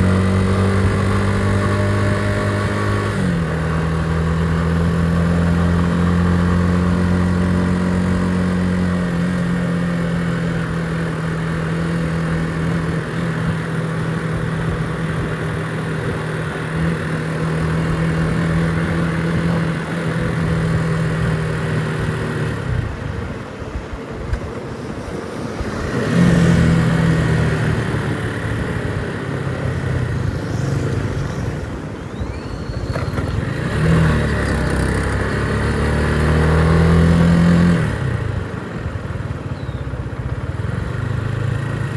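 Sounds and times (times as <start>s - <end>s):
motorcycle engine running: 0.0s - 23.9s, 25.7s - 41.9s.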